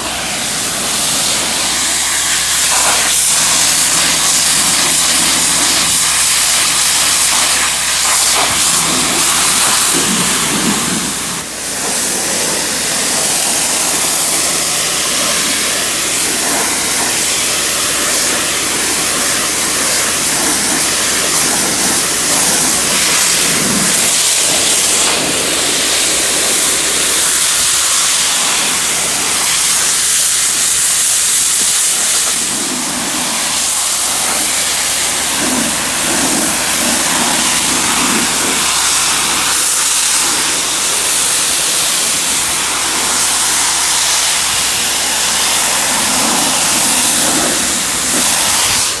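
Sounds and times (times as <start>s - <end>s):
water spraying hard: 0.0s - 49.0s.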